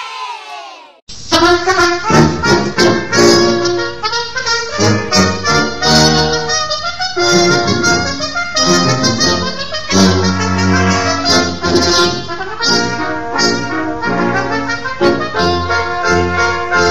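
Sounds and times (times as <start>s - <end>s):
instrumental music: 1.3s - 16.9s.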